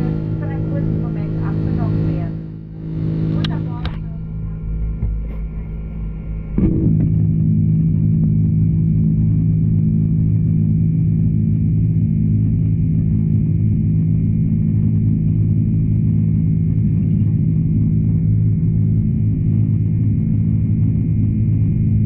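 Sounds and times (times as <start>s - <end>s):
jet engine cabin drone: 0.0s - 22.0s.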